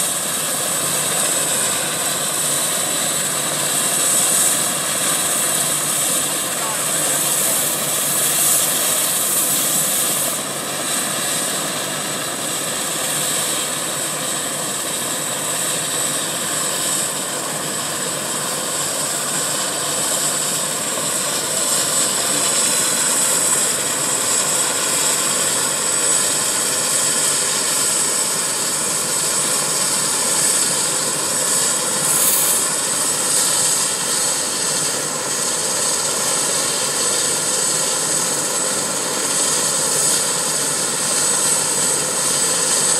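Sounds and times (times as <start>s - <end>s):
helicopter rotor noise: 0.0s - 42.9s
high turbine whine: 0.0s - 42.9s.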